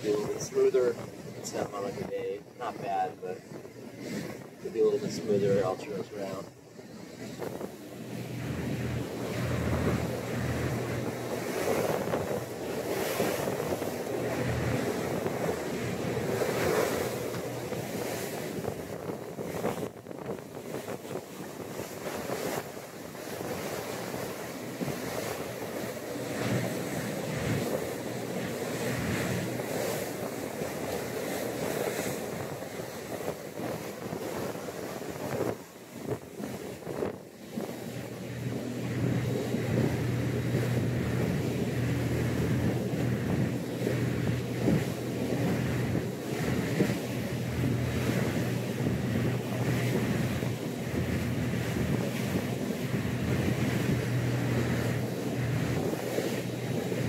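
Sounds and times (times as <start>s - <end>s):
sea rushing along boat hull: 0.0s - 57.0s
wind buffeting microphone: 0.0s - 57.0s.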